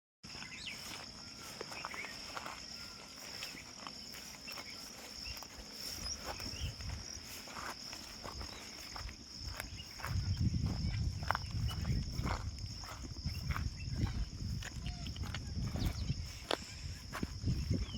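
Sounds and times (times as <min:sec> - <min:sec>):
insect chorus trilling: 0:00.3 - 0:17.9.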